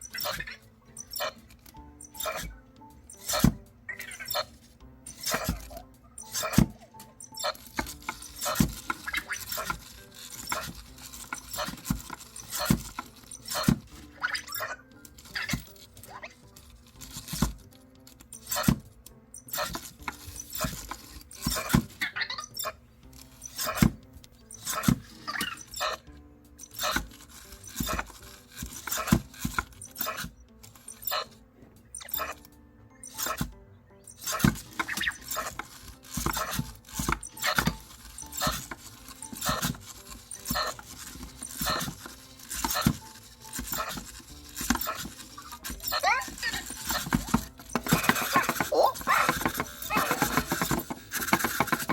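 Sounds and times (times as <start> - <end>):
small servo motors whirring: 0.0 - 18.8, 19.4 - 31.4, 32.0 - 51.9.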